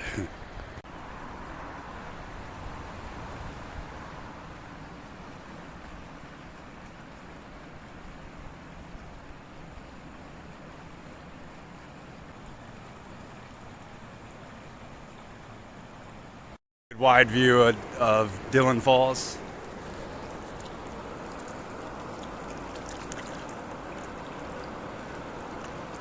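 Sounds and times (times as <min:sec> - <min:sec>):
waterfall and rapids rushing: 0:00.0 - 0:26.0.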